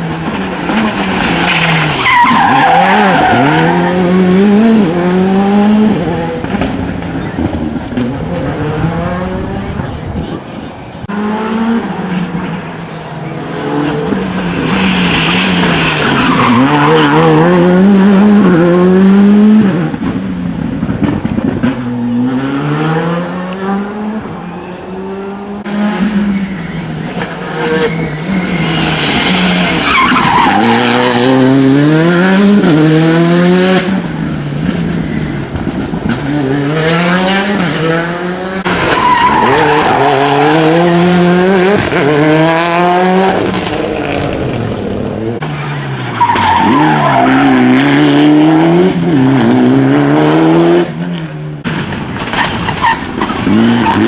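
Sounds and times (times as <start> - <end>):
rally cars passing at speed: 0.0 - 54.0.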